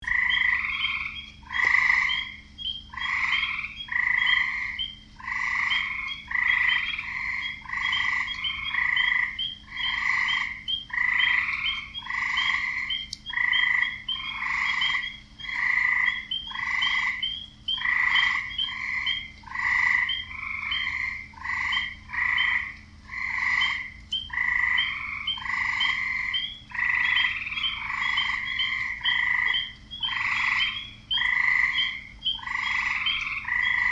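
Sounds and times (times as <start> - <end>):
frogs croaking: 0.0 - 33.9.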